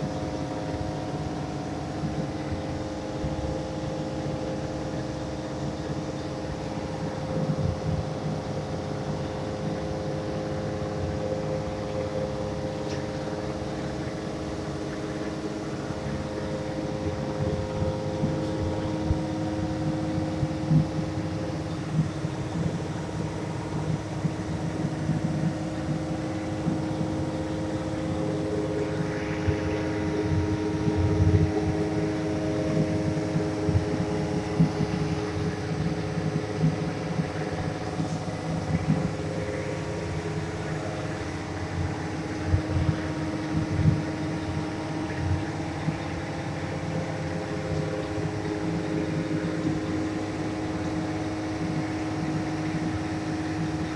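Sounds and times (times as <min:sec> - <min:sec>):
mechanical hum of held tones: 0:00.0 - 0:53.9.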